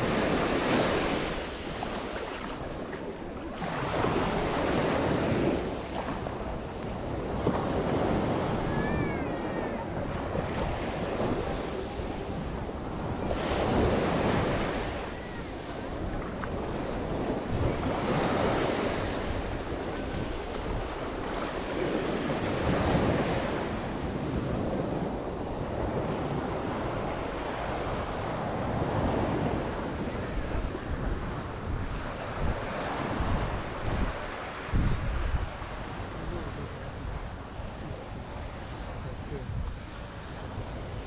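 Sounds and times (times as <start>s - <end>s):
sea waves breaking on beach: 0.0s - 41.0s.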